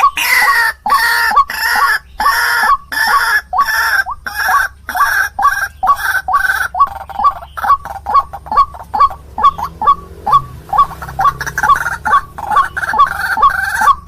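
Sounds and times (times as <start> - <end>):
waterhen calling harsh notes: 0.0 - 14.0.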